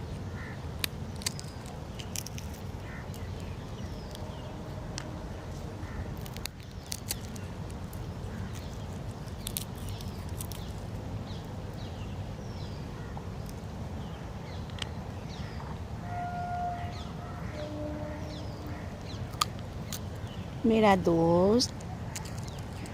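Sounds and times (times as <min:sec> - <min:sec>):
small birds chirping: 0:00.0 - 0:15.8, 0:16.7 - 0:22.9
steady low rumble: 0:00.0 - 0:22.9.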